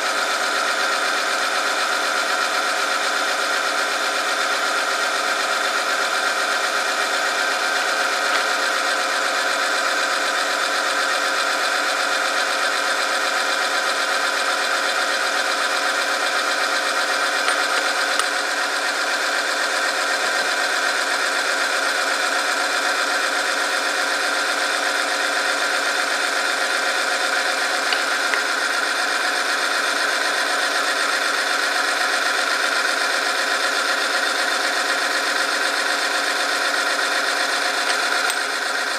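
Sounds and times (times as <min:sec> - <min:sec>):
machine whine and grind: 0:00.0 - 0:38.9.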